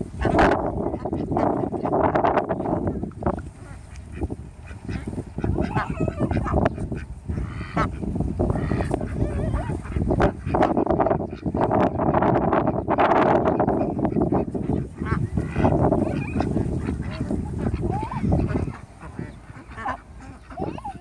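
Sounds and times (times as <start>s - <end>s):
ducks quacking: 0.0s - 21.0s
harsh duck calls: 3.7s - 21.0s.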